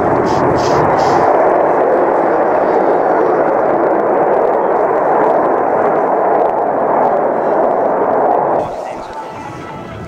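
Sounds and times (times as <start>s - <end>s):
jet roar flying overhead: 0.0s - 10.0s.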